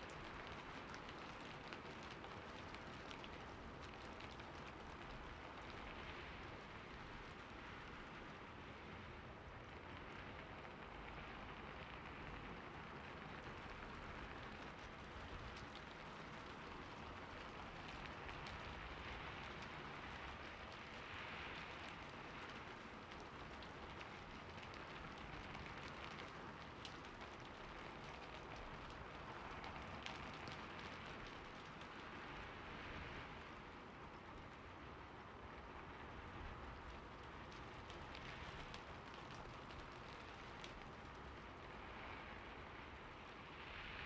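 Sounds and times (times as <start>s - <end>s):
raindrop ticks: 0.0s - 7.9s, 9.9s - 34.6s, 35.8s - 41.8s
rain falling on a roof: 0.0s - 44.0s.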